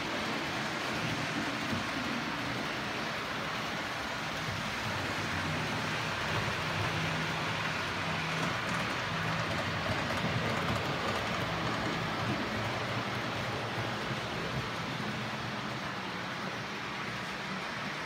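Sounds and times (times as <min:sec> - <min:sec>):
wheels rolling on rails: 0:00.0 - 0:18.0.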